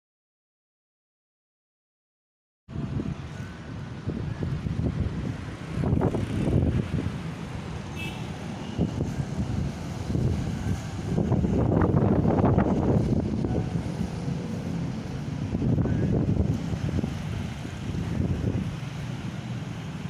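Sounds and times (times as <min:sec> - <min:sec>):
wind buffeting microphone: 0:02.7 - 0:20.0.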